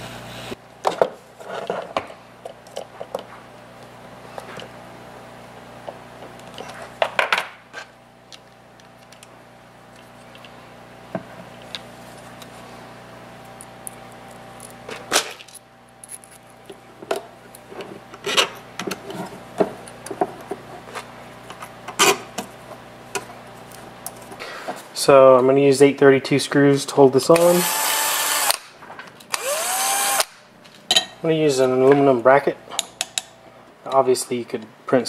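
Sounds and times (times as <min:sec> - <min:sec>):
background hum: 0:00.0 - 0:35.0.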